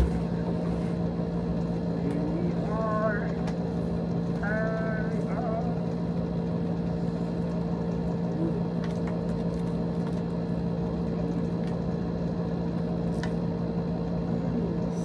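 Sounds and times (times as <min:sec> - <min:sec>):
small electric fan humming: 0:00.0 - 0:15.0.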